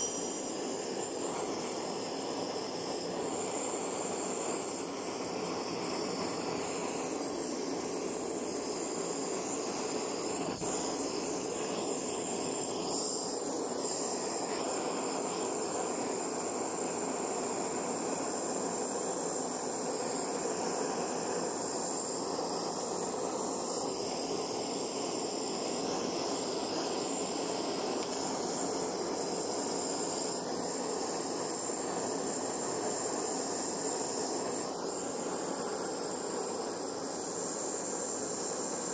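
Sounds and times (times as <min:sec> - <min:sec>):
gas torch hissing: 0:00.0 - 0:38.9.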